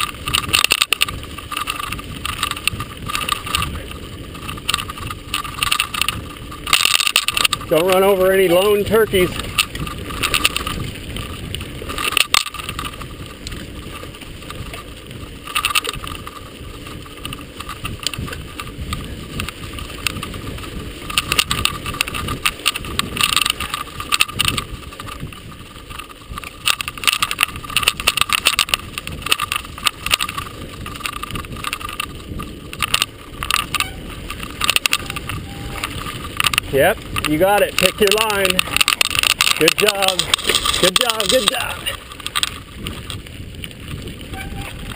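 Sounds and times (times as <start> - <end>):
bike rattling over bumps: 0.0 - 44.9
bike tyres rolling on dirt: 0.0 - 44.9.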